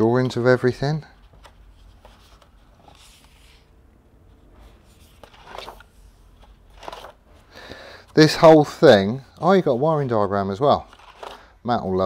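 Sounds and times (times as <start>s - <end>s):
paper pages rustling: 0.2s - 3.7s, 4.3s - 12.0s.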